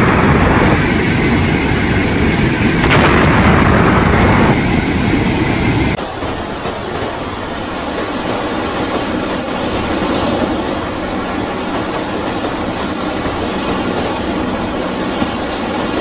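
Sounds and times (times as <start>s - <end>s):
floodwater rushing: 2.8s - 16.0s.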